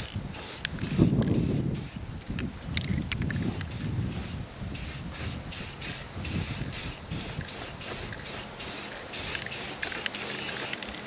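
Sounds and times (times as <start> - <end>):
spray paint can hissing: 0.0 - 2.0, 2.9 - 11.0.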